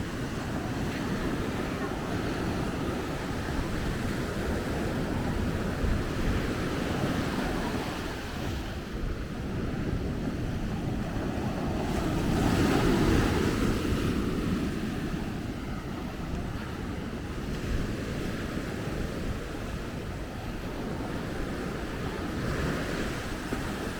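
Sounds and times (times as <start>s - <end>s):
ocean surf washing onto beach: 0.0s - 23.9s
wind buffeting microphone: 0.0s - 23.9s.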